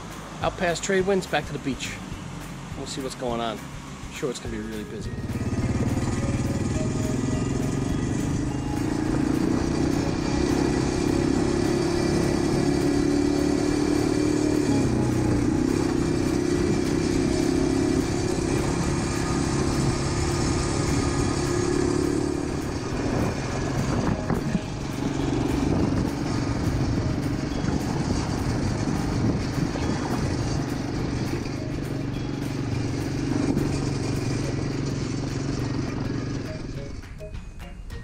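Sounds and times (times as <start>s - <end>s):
quad bike engine running: 0.0s - 37.2s
tyres on gravel road: 0.0s - 38.0s.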